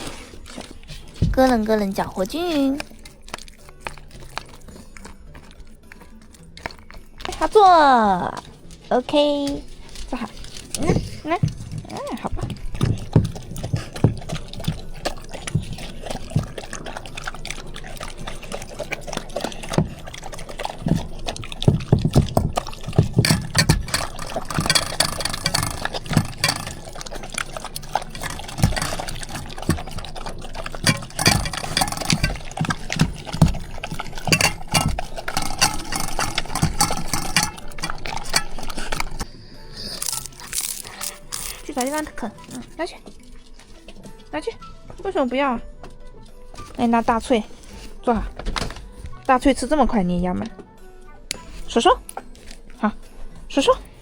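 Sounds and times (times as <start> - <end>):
dogs lapping and chewing: 0.0 - 54.0.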